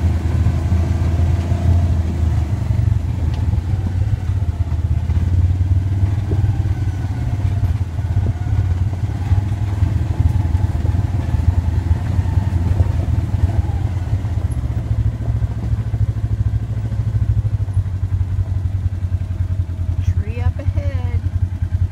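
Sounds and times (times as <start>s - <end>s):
vehicle engine low drone: 0.0s - 21.9s.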